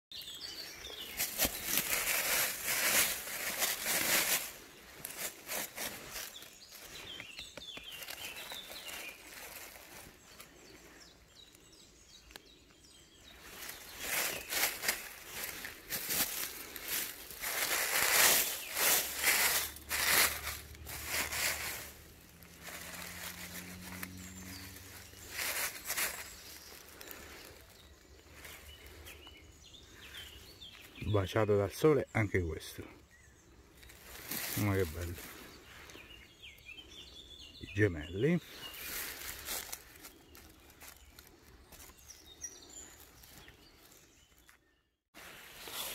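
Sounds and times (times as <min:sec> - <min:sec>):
dry leaves rustling and crunching: 0:00.6 - 0:10.8, 0:13.2 - 0:30.9, 0:33.8 - 0:36.0, 0:37.8 - 0:44.4, 0:45.2 - 0:45.9.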